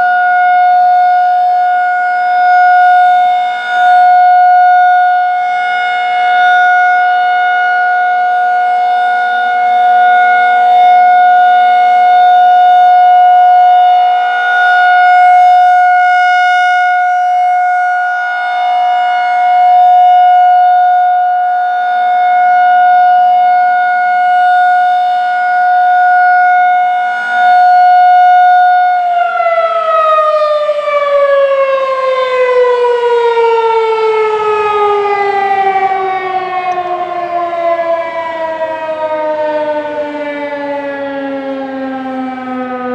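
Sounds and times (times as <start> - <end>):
rotating warning siren: 0.0 - 42.9.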